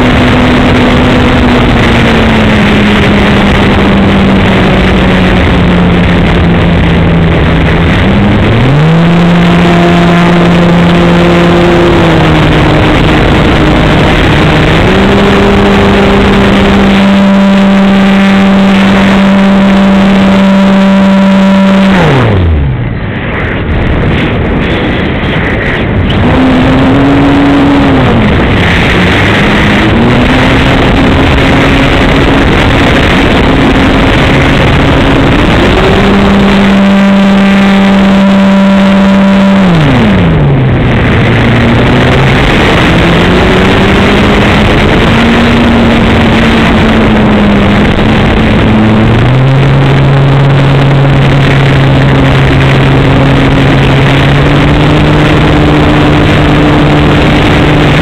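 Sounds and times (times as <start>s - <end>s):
wind rush over microphone: 0.0s - 58.0s.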